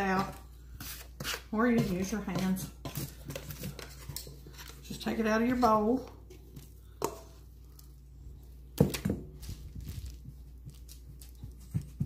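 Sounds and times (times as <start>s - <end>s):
hands working dough on paper: 0.0s - 12.0s.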